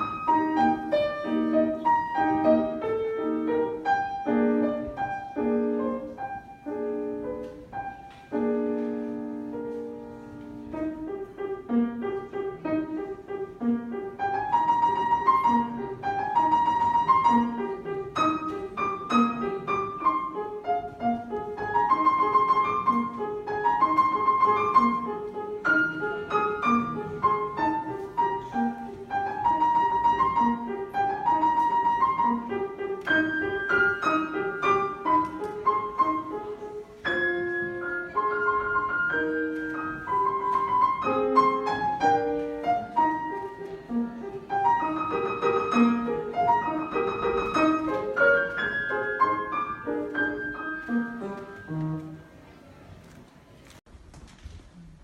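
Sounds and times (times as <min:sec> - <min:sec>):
solo piano piece: 0:00.0 - 0:53.8.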